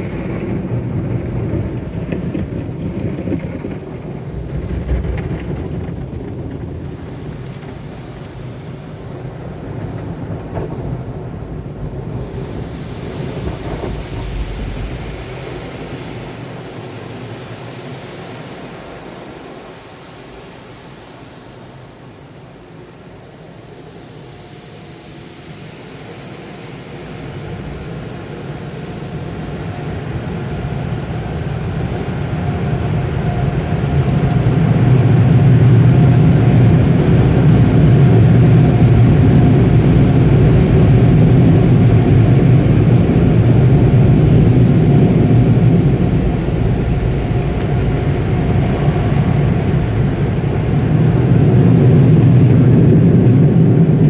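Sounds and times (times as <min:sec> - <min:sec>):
car wash machinery: 0:00.0 - 0:54.0.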